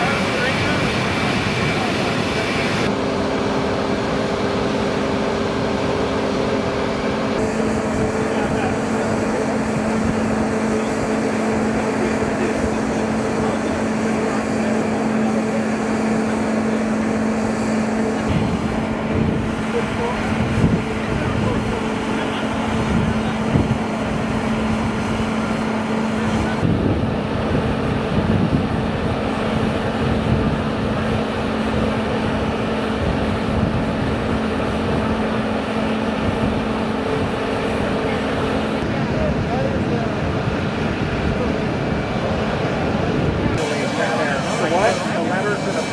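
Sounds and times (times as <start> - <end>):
mechanical drone with low hum: 0.0 - 45.9.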